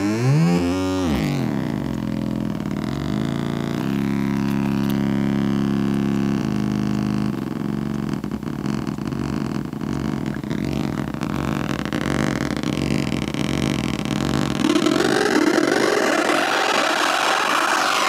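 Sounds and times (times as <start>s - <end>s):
audio feedback howl: 0.0s - 18.0s.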